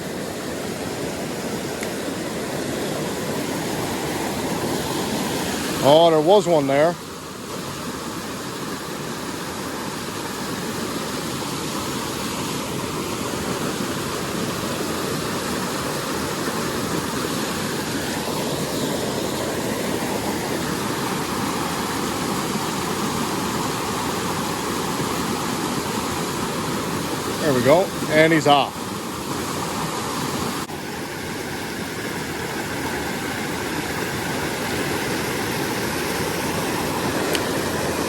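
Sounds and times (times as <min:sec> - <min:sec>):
creek water rushing over waterfalls: 0:00.0 - 0:38.0.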